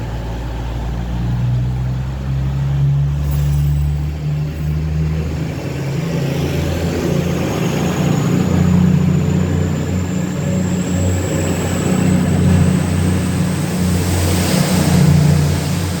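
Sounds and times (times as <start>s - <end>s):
diesel train engine droning: 0.0s - 16.0s.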